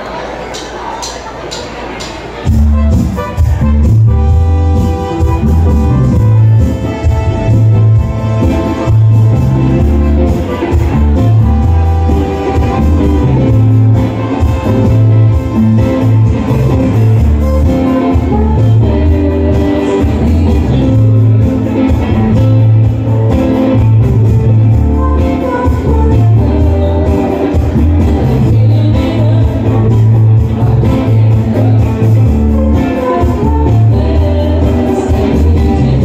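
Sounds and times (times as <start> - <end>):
electric keyboards: 0.0 - 36.0
guitar: 0.0 - 36.0
drums: 0.5 - 36.0
electric bass: 2.4 - 36.0
person singing: 4.8 - 36.0.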